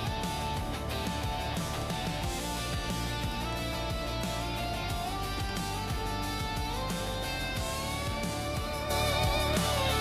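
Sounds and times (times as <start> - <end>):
guitar band music with drums: 0.0 - 10.0.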